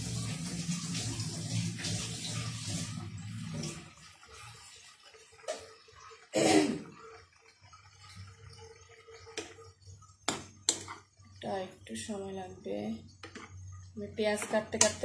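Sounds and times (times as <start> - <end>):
water boiling and hissing: 0.0 - 15.0.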